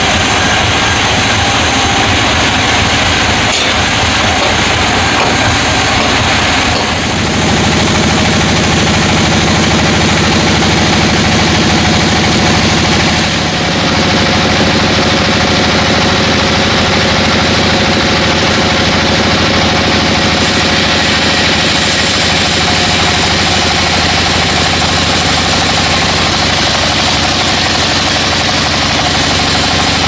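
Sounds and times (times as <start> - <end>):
sawmill engine running: 0.0 - 30.0.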